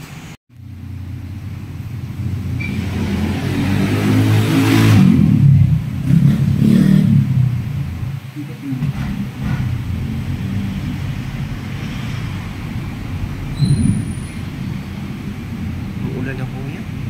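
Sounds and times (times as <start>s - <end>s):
engine revving: 0.6s - 17.0s.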